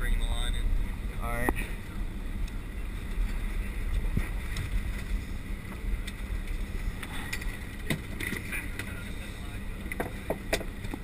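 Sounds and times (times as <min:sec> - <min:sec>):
boat engine low rumble: 0:00.0 - 0:11.0.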